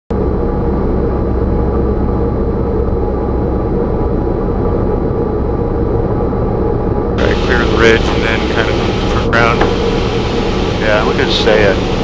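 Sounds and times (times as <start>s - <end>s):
airplane engine and propeller droning: 0.1s - 12.0s.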